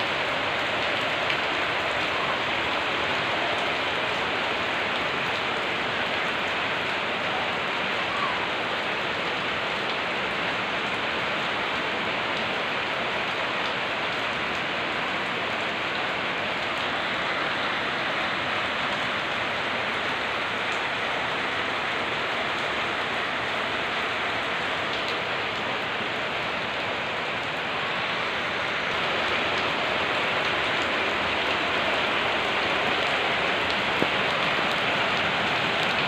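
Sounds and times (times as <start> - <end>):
rain on paving and puddle: 0.0 - 36.0.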